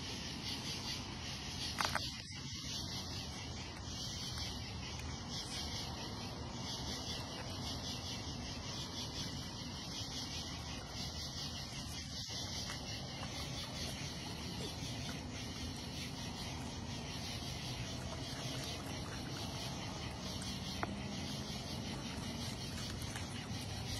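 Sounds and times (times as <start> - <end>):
constant low hiss: 0.0 - 23.9
crickets chirping: 0.0 - 23.9.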